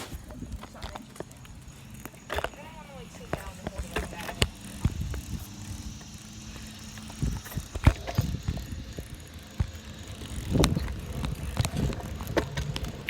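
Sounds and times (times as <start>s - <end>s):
bicycle rattling over rough ground: 0.0s - 13.0s.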